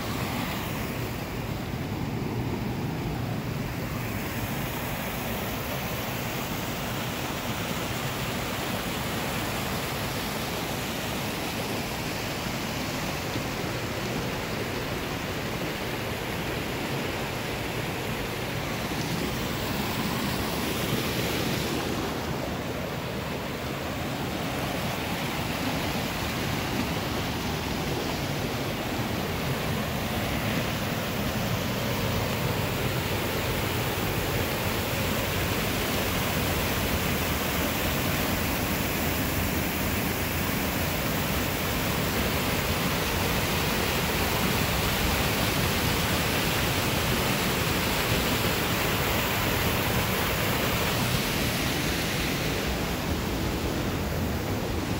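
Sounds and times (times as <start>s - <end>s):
waterfall splashing: 0.0s - 54.9s.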